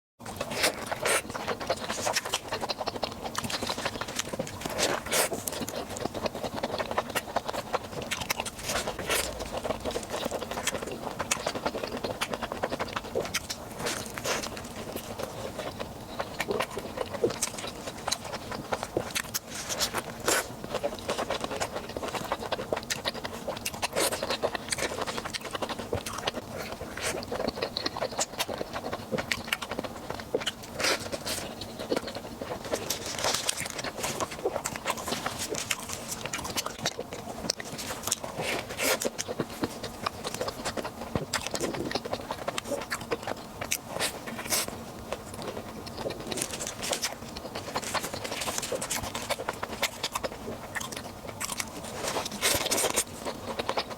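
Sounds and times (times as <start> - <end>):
wet chewing and biting: 0.3 - 53.9.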